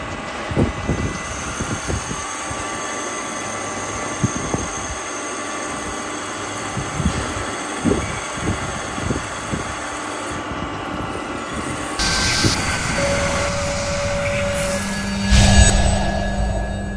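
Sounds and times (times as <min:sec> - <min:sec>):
lathe hum and whine: 0:00.0 - 0:16.9.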